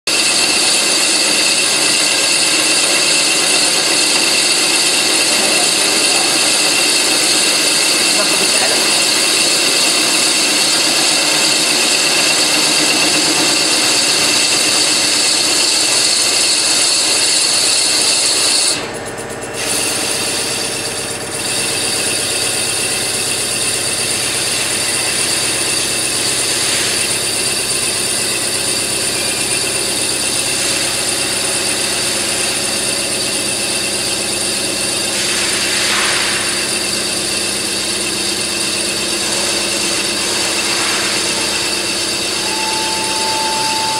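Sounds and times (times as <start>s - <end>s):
lathe spindle whine and hiss: 0.1s - 43.9s.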